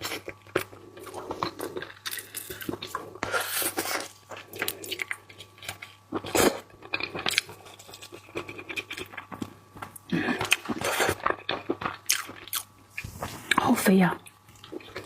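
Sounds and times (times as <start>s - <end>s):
chewing and crunching seafood: 0.0s - 15.0s.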